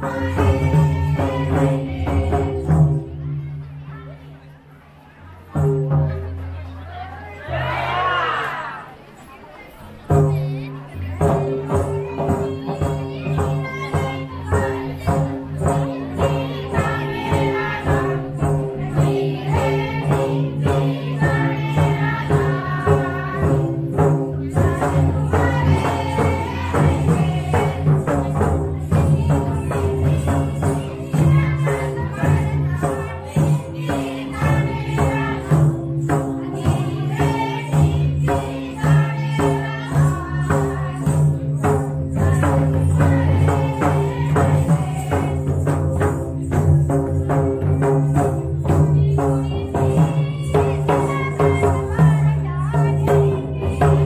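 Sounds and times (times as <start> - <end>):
group singing a folk song: 0.0 - 2.9, 7.4 - 8.8, 12.0 - 46.5, 48.9 - 54.0
hand drums: 0.0 - 3.8, 5.5 - 6.7, 10.0 - 54.0
jingling percussion: 0.0 - 4.2, 9.2 - 54.0.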